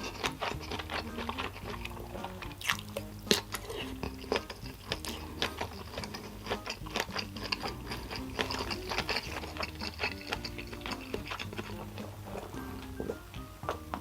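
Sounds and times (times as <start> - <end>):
chewing with mouth clicks: 0.0 - 14.0
low background tones: 0.0 - 14.0.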